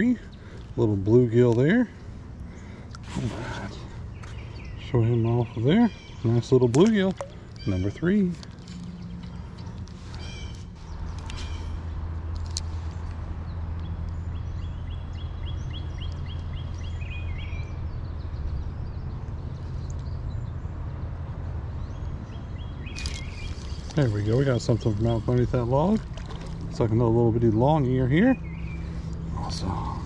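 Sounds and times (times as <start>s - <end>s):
songbirds calling: 0.0s - 30.0s
steady low hum: 0.0s - 30.0s.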